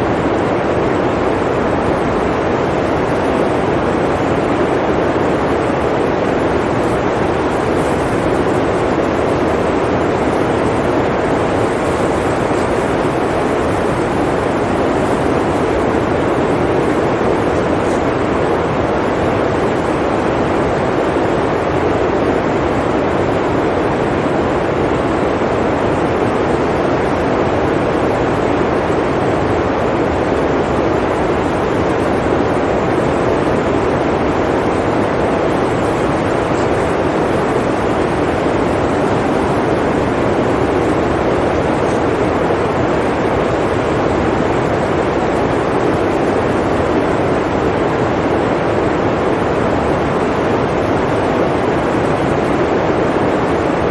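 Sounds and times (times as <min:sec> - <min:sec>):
blizzard wind blowing: 0:00.0 - 0:53.9.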